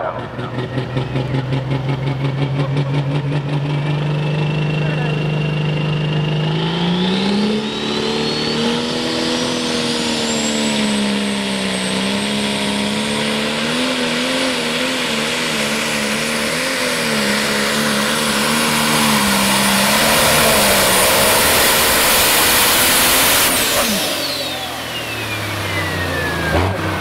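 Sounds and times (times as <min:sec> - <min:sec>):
tractor engine at full power: 0:00.0 - 0:27.0
high whine rising in pitch: 0:00.2 - 0:27.0.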